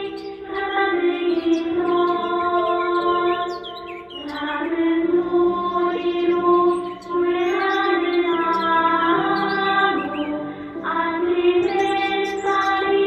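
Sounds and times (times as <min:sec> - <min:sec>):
birds chirping: 0:00.0 - 0:13.0
children's choir singing: 0:00.0 - 0:13.0.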